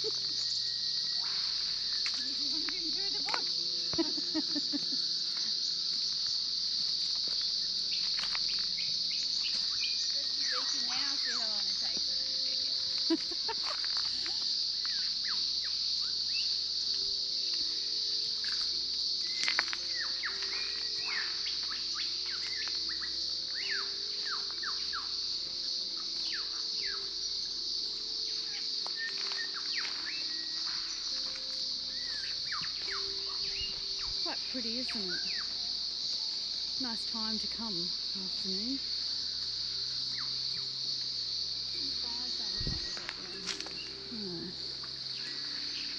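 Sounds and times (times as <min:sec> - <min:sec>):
forest birds chirping: 0:00.0 - 0:45.9
high-pitched insect drone: 0:00.0 - 0:45.9.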